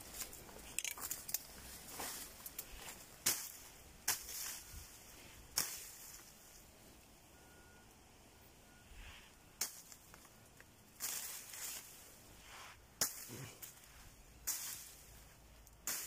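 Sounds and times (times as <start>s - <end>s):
brush rustling and snapping: 0.0s - 6.7s, 9.4s - 16.0s.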